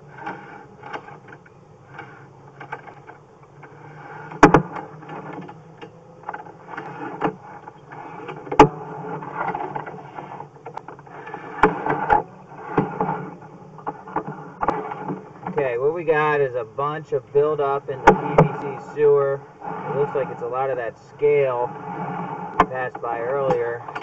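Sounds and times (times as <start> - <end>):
cable scraping and rattling: 0.0 - 24.0
steady low hum: 0.0 - 24.0.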